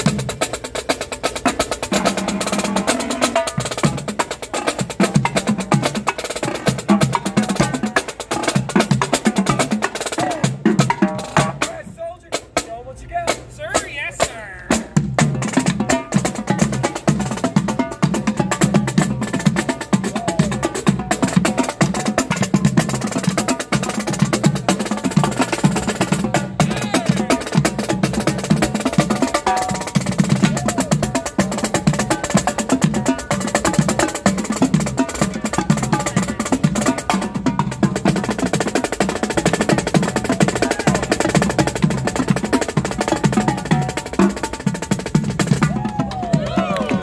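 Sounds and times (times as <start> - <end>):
marching drums cadence: 0.0 - 47.0.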